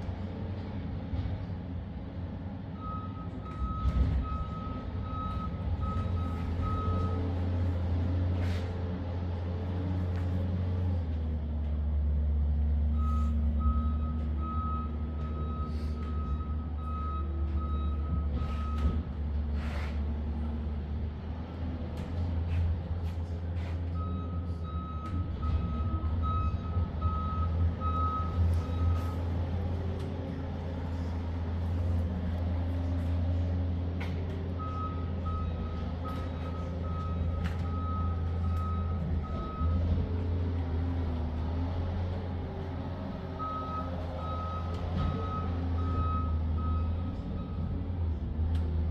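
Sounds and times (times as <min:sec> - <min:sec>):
low engine rumble: 0:00.0 - 0:48.9.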